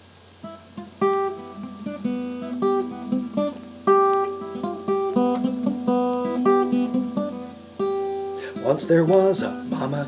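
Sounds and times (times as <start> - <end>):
acoustic guitar strumming chords: 0.4 - 10.0.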